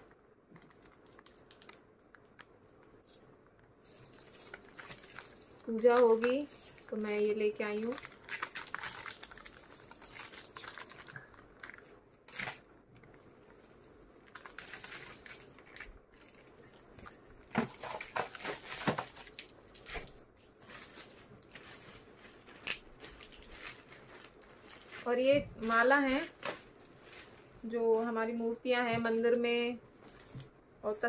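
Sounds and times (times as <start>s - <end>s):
plastic packaging rustling: 0.1s - 30.5s.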